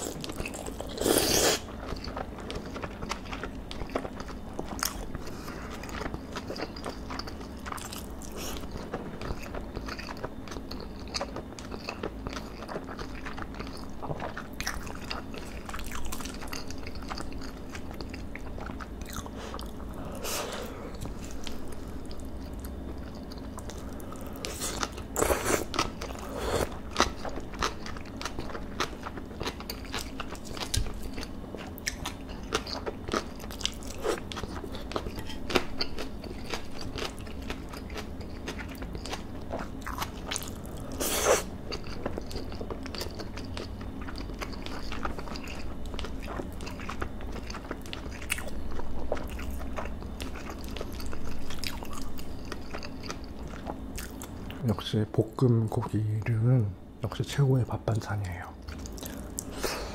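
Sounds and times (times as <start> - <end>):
wet chewing: 0.0 - 54.6, 58.6 - 59.9.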